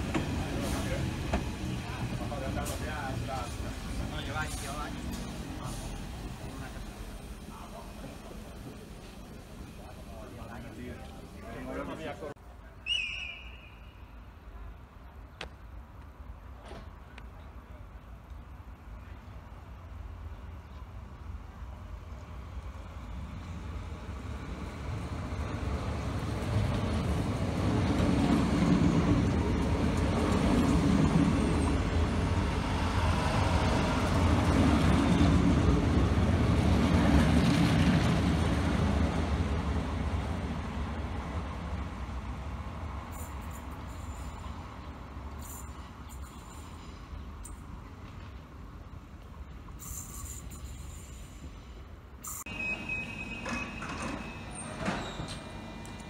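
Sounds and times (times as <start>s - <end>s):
train wheels rumbling on rails: 0.0s - 12.2s, 22.3s - 51.9s, 52.5s - 56.0s.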